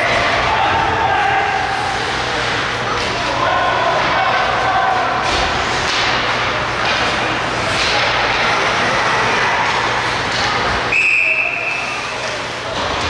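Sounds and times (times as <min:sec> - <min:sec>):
spectators' voices: 0:00.0 - 0:13.0.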